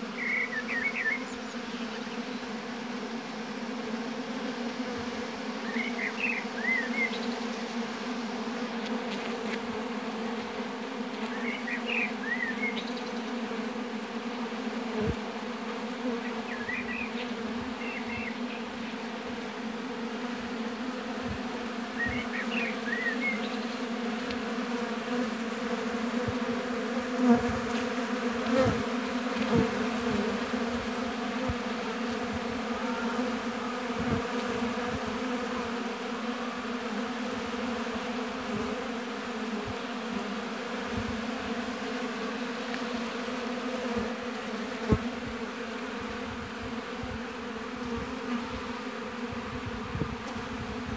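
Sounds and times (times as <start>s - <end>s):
bees buzzing: 0.0s - 50.9s.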